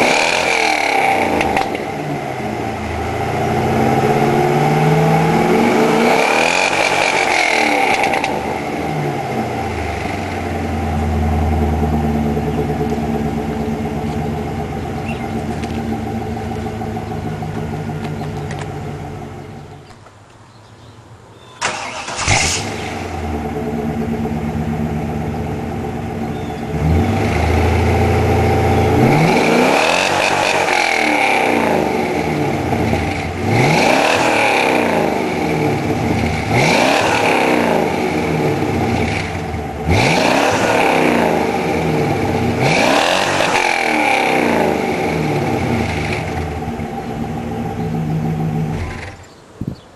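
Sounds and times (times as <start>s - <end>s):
car engine idling and revving: 0.0s - 19.9s, 21.7s - 49.4s.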